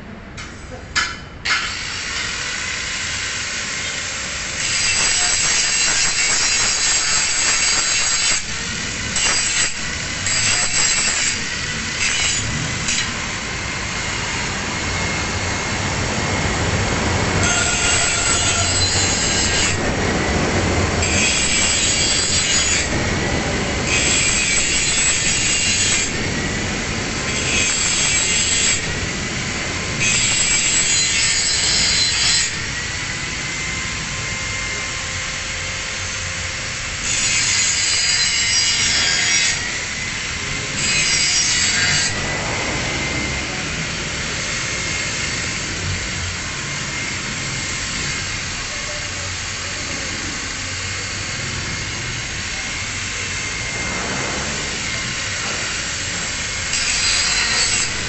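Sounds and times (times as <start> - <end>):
angle grinder grinding steel: 3.8 - 15.7, 17.3 - 20.0, 20.9 - 23.2, 23.8 - 35.0, 36.6 - 58.0.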